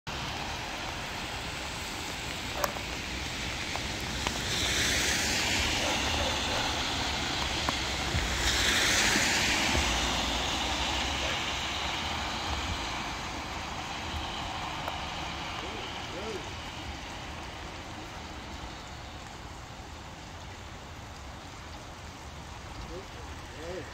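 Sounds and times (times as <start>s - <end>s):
outdoor hiss: 0.1s - 23.9s
wind rumbling on microphone: 0.1s - 23.9s.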